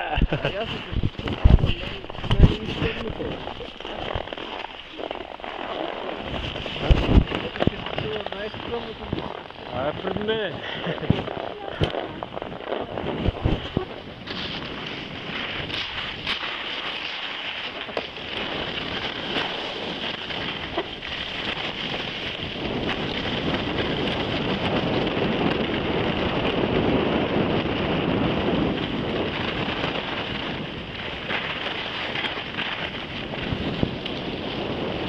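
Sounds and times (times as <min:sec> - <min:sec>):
skis scraping on snow: 0:00.0 - 0:35.0
wind noise on microphone: 0:00.0 - 0:35.0.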